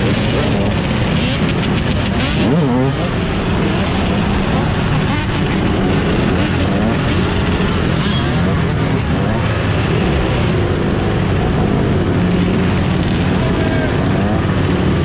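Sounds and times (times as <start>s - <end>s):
dirt bike engines running: 0.0s - 15.0s
people's voices: 0.0s - 15.0s.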